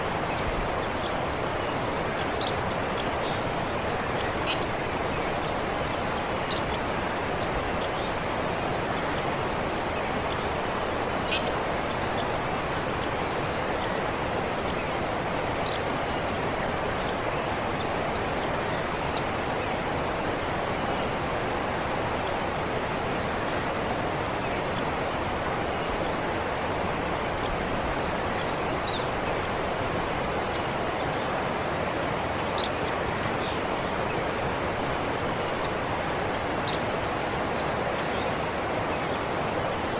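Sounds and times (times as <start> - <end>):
birds chirping: 0.0 - 22.2, 23.4 - 39.9
stream rushing: 0.0 - 39.9.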